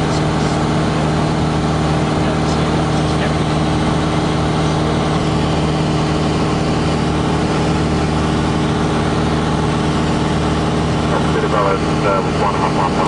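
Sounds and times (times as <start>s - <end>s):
aircraft engine drone in cabin: 0.0s - 13.0s.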